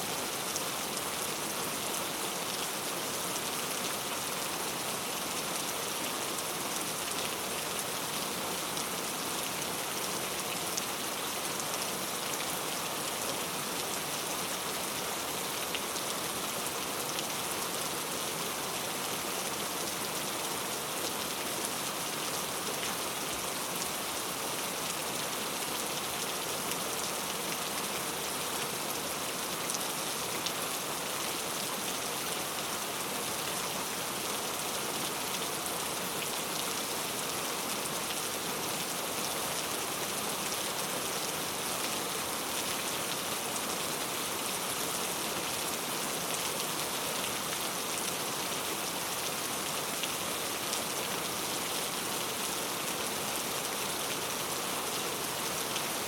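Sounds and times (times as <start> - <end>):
rain hiss: 0.0 - 56.0.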